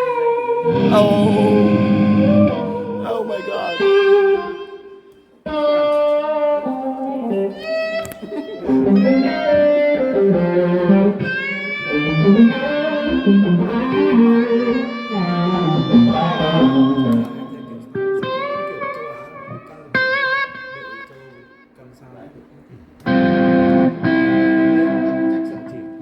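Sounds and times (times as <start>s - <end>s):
electric guitar lead melody: 0.0s - 21.6s, 23.0s - 26.0s.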